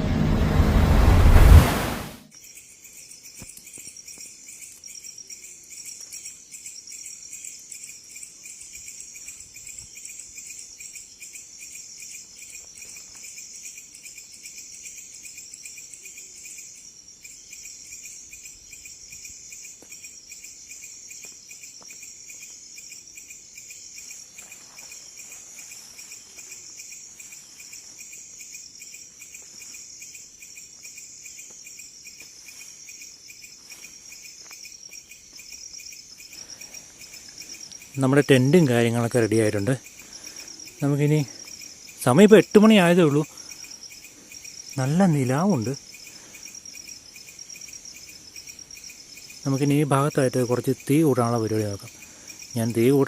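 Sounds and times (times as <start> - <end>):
crickets trilling: 2.3 - 53.0.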